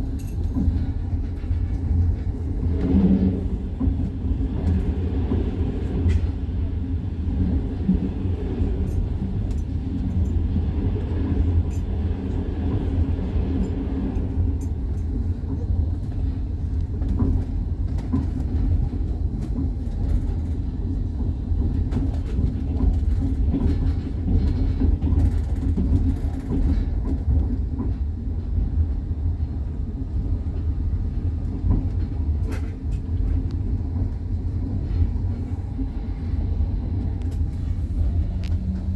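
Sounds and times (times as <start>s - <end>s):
train wheels rumbling: 0.0s - 38.9s.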